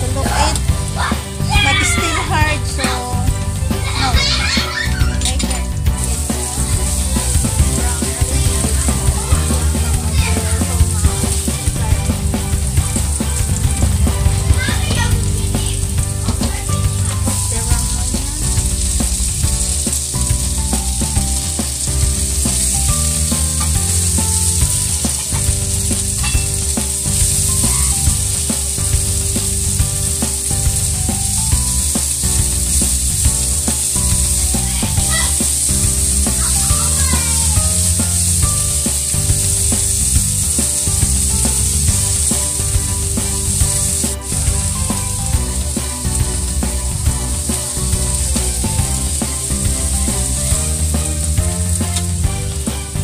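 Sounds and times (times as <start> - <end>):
onions sizzling in hot oil: 0.0 - 53.0.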